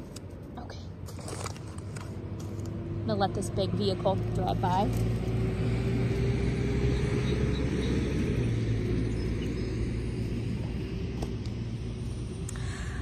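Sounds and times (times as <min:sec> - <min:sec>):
large vehicle engine rumbling past: 0:01.6 - 0:13.0.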